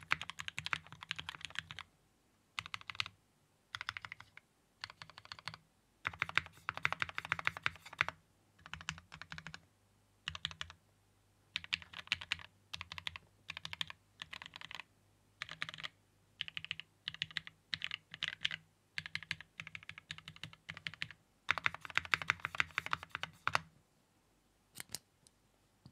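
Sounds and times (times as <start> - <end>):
mechanical keyboard typing: 0.0 - 1.9, 2.6 - 9.6, 10.3 - 10.8, 11.6 - 23.7.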